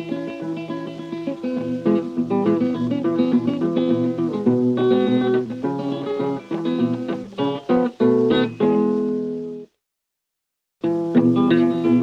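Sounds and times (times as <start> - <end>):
acoustic guitar blues picking: 0.0 - 9.7, 10.8 - 12.0.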